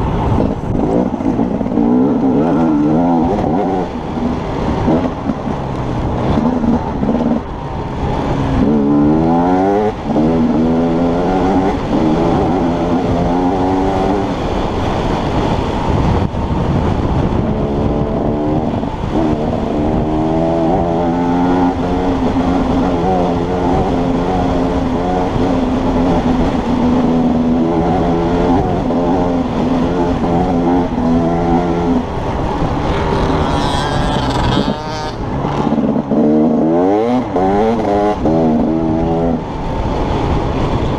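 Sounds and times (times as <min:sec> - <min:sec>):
motorcycle engine revving: 0:00.0 - 0:40.9
wind rush on microphone: 0:00.0 - 0:40.9.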